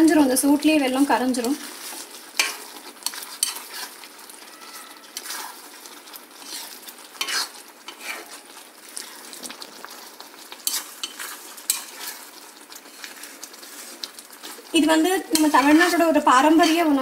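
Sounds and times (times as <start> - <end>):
syrup sizzling: 0.0 - 17.0
ladle scraping a pan: 1.6 - 9.3, 10.0 - 16.9.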